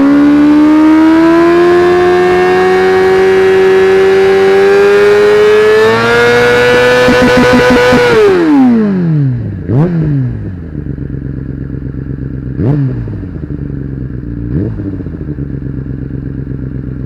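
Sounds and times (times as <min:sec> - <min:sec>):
motorcycle engine revving high: 0:00.0 - 0:17.0.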